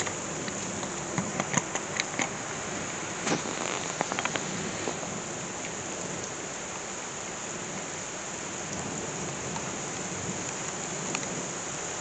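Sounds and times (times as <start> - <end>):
heavy rain on rooftops: 0.0 - 12.0.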